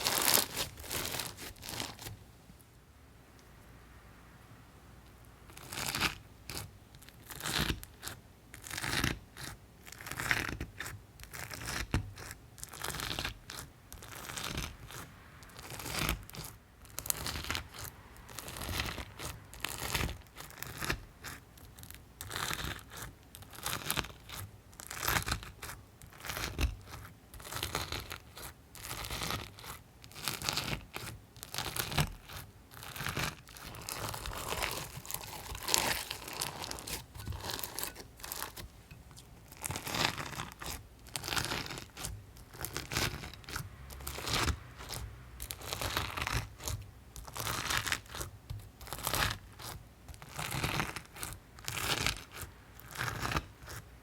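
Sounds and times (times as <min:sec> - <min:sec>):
hands squeezing crunchy slime: 0:00.0 - 0:02.1, 0:05.5 - 0:38.6, 0:39.4 - 0:53.9.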